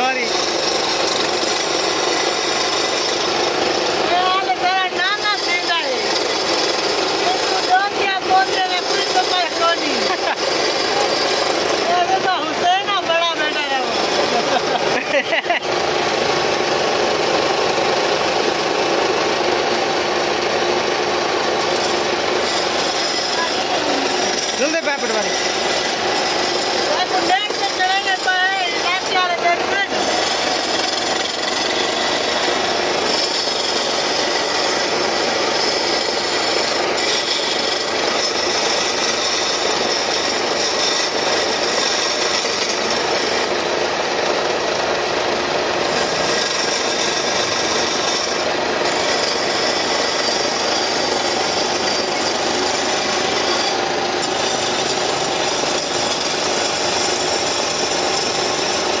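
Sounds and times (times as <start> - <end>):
gouge scraping spinning wood: 0.0 - 59.0.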